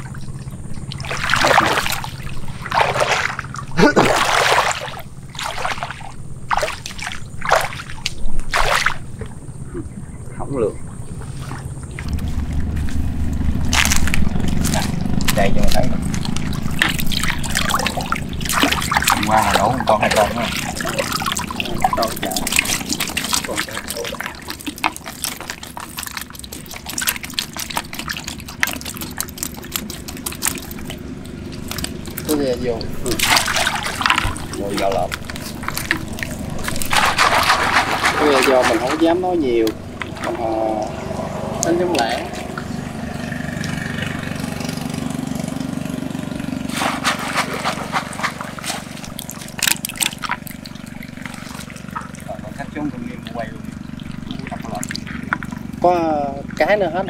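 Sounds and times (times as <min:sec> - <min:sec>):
water trickling and splashing: 0:00.0 - 0:09.7, 0:10.5 - 0:57.0
small engine idling: 0:00.0 - 0:57.0.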